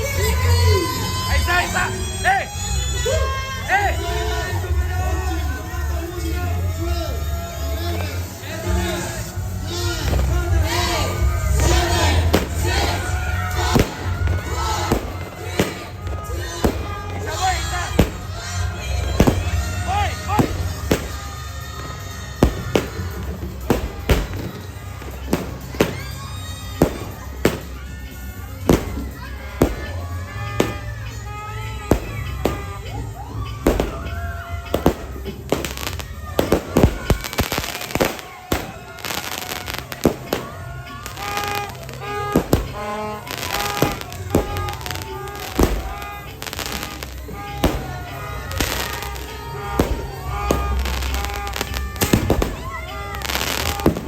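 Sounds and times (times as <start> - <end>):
fireworks bangs: 0.0 - 54.0
fireworks crackling: 0.0 - 54.0
music: 0.0 - 54.0
voices: 0.0 - 54.0.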